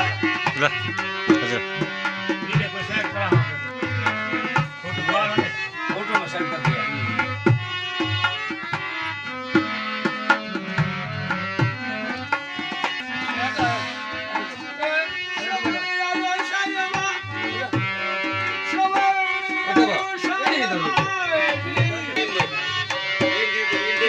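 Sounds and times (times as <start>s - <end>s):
hand drums beating: 0.0s - 24.0s
sustained melody instruments: 0.0s - 24.0s.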